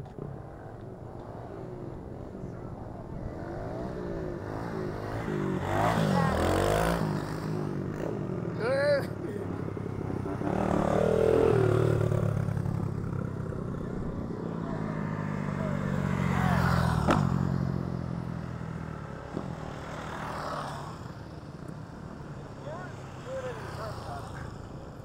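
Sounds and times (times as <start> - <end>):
dirt bike engines passing: 0.0 - 25.0.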